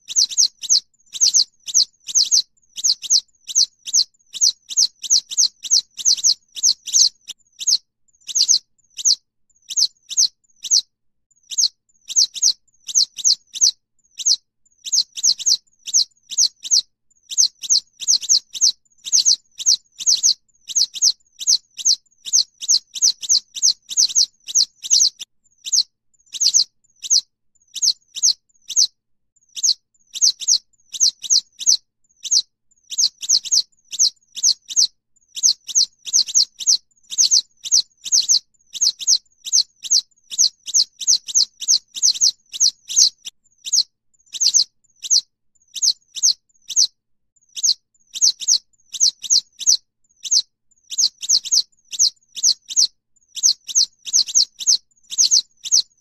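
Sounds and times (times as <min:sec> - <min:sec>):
bird high thin calls: 0:00.0 - 0:10.9, 0:11.5 - 0:28.9, 0:29.6 - 0:46.9, 0:47.6 - 0:55.9.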